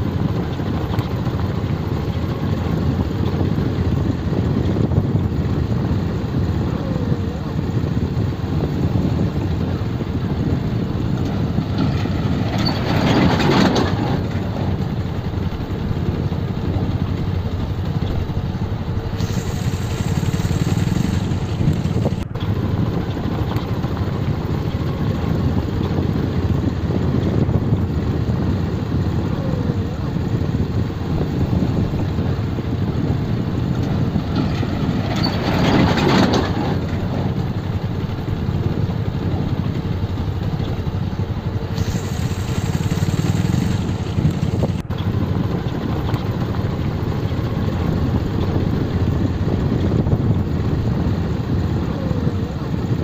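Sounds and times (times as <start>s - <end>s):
motorcycle engine running: 0.0s - 53.0s
rushes of noise: 0.0s - 53.0s.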